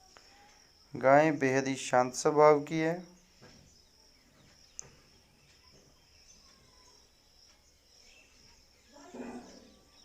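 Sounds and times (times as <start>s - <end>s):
insect chirring: 0.0s - 10.0s.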